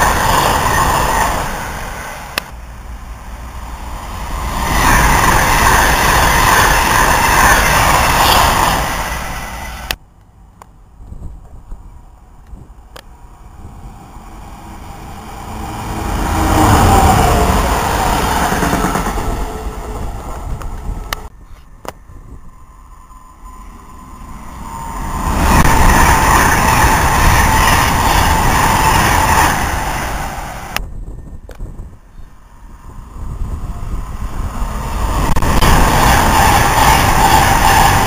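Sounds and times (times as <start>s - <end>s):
train whine: 0.0s - 10.0s, 11.4s - 38.0s
train rumbling: 0.0s - 38.0s.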